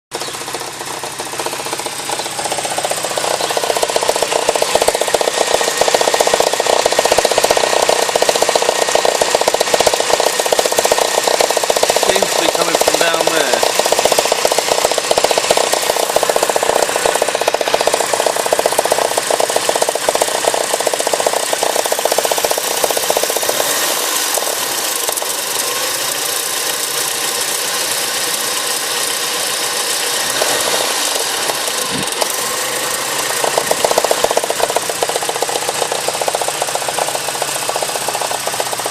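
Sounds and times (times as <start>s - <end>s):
car engine knocking: 0.1s - 38.9s.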